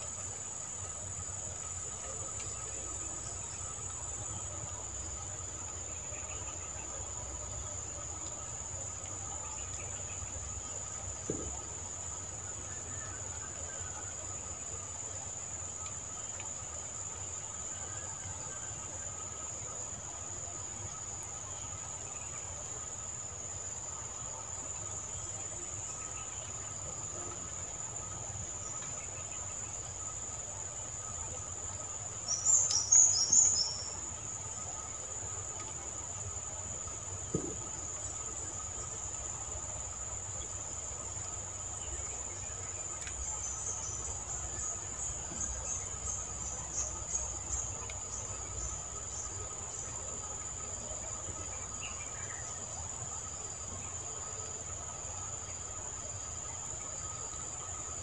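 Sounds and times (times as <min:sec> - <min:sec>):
insects trilling: 0:00.0 - 0:58.0
loud insect chirps: 0:00.0 - 0:58.0.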